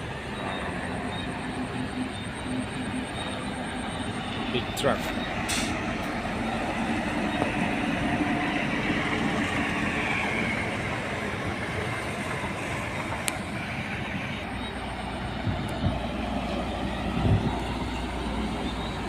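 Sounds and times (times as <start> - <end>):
truck driving past: 0.0 - 19.0.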